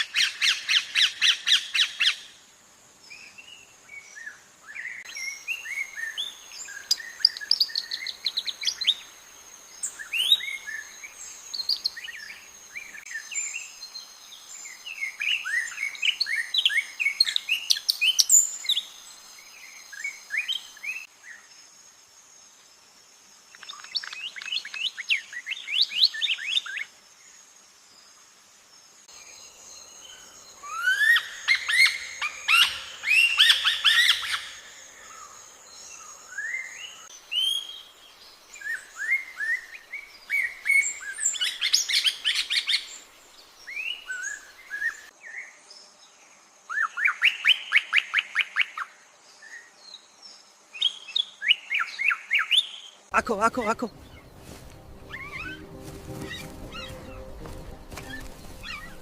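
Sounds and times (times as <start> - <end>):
birds singing whistled notes: 3.1 - 21.5, 29.2 - 45.9, 46.7 - 59.0.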